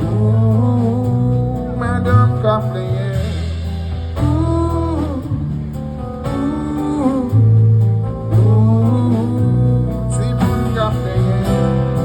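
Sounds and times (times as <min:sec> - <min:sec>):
bass line: 0:00.0 - 0:12.0
guitar: 0:00.0 - 0:12.0.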